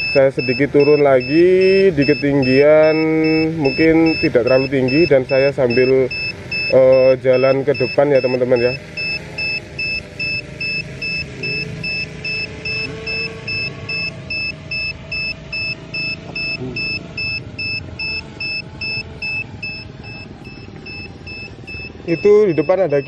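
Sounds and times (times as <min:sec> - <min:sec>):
short high electronic beeps: 0:00.0 - 0:23.0
steady background noise: 0:00.0 - 0:23.0.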